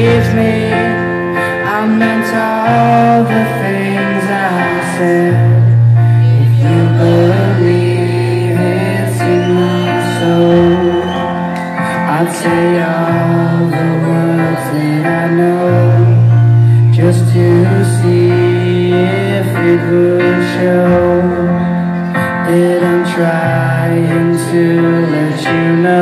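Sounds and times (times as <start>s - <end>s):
low bass notes: 0.0s - 25.9s
live rock band music: 0.0s - 26.0s
upright piano: 0.0s - 26.0s.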